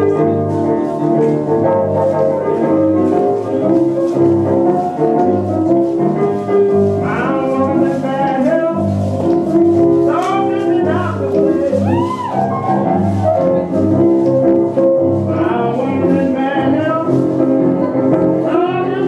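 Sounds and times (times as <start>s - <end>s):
blues song: 0.0s - 19.0s
piano-like chords: 0.0s - 19.0s.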